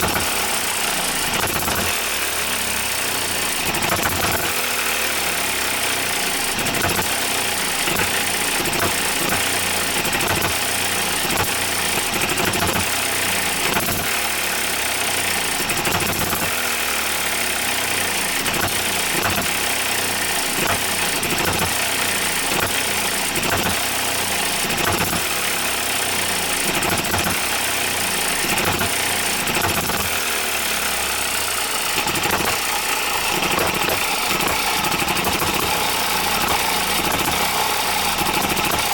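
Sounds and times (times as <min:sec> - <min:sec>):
small engine firing in knocks: 0:00.0 - 0:02.6, 0:03.5 - 0:05.2, 0:06.0 - 0:14.6, 0:15.2 - 0:17.0, 0:18.0 - 0:38.9.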